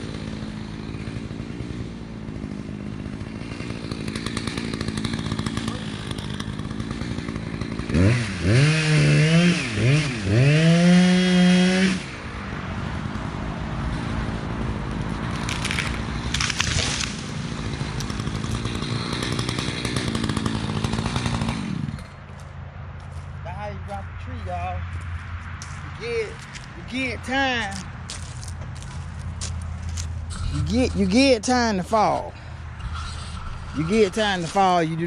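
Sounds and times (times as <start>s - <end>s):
chainsaw idling and revving: 0.0s - 22.5s, 26.0s - 35.0s.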